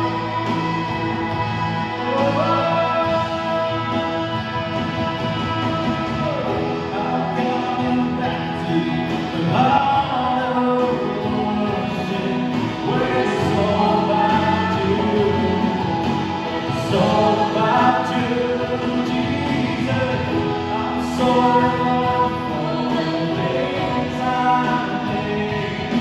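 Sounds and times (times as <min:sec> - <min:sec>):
band accompaniment: 0:00.0 - 0:26.0
voices singing together: 0:00.0 - 0:26.0.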